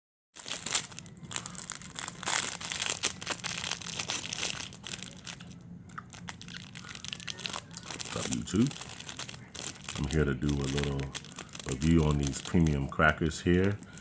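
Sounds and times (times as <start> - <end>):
packaging crinkling: 0.4 - 14.0.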